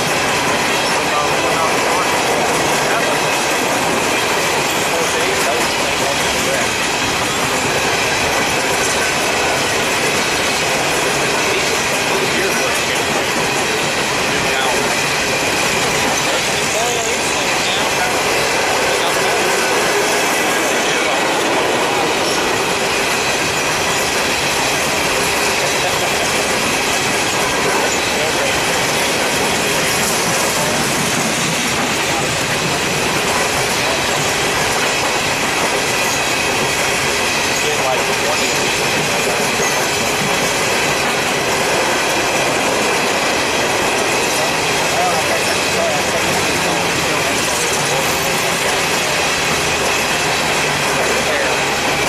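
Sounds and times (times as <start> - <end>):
steel wheels clattering on rail: 0.0 - 52.0.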